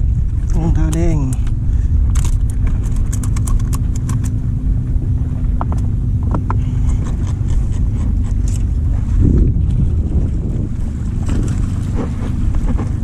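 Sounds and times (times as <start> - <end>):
low hum: 0.0 - 13.0
wind buffeting microphone: 0.0 - 13.0.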